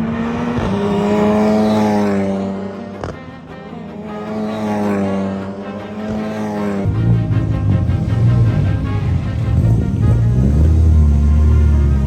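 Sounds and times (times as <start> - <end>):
cars passing at speed: 0.0 - 12.0.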